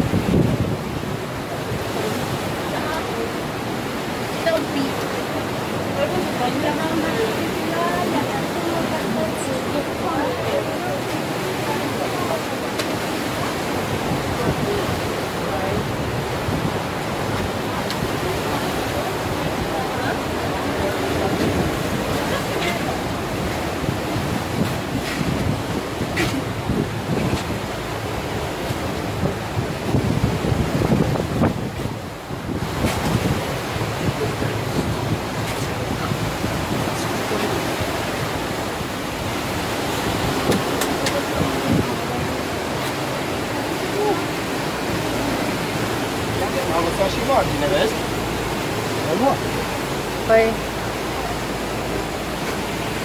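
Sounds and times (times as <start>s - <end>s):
waves breaking on rocks: 0.0s - 53.0s
wind buffeting microphone: 0.0s - 53.0s.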